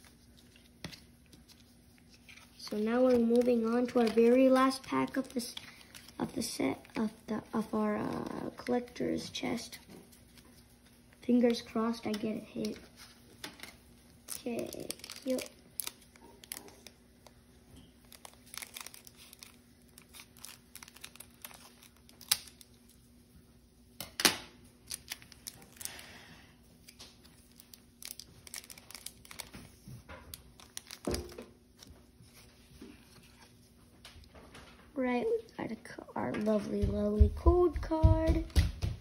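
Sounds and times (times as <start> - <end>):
foil wrapper crinkling and tearing: 0.0 - 23.0, 24.8 - 33.7.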